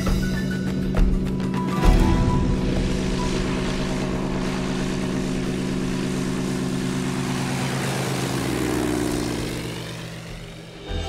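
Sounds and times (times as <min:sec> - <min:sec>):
propeller engine running: 0:00.0 - 0:11.0.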